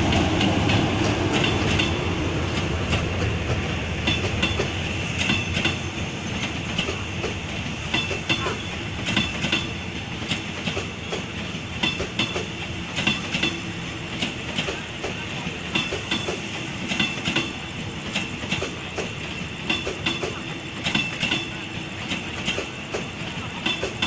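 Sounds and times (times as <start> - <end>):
railway carriages rumbling: 0.0 - 24.0
train wheels clicking over rail joints: 0.0 - 24.0.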